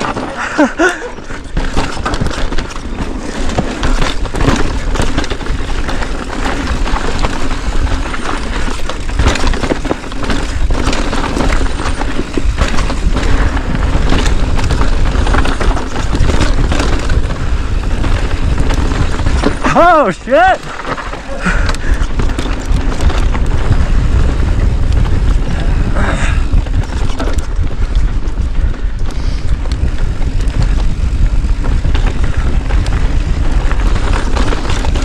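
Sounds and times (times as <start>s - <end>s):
sharp clacks and rattles: 0.0s - 35.0s
rushing noise with low rumble: 1.2s - 35.0s.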